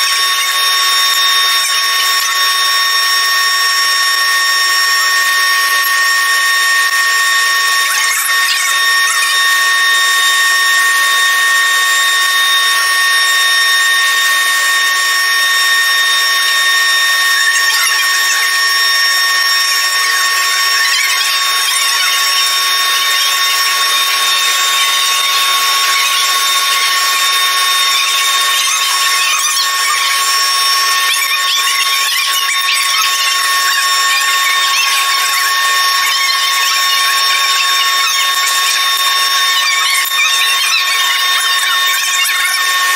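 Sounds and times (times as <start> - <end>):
power tool whining on metal: 0.0 - 42.9.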